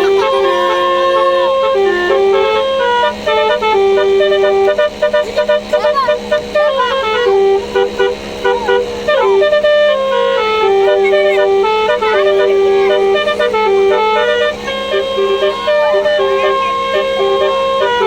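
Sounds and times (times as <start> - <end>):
multi-tone bus horn playing tune: 0.0 - 18.0.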